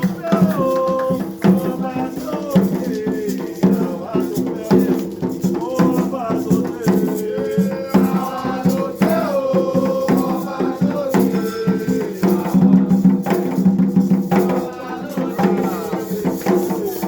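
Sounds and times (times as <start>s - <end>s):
person singing: 0.0s - 13.6s, 14.2s - 17.0s
drums: 0.0s - 17.0s
shaken rattles: 0.0s - 17.0s.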